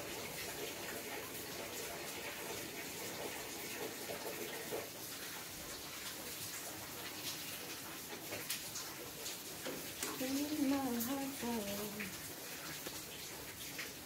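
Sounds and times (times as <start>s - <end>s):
faint rain patter: 0.0s - 14.0s
steady rain hiss: 0.0s - 14.0s.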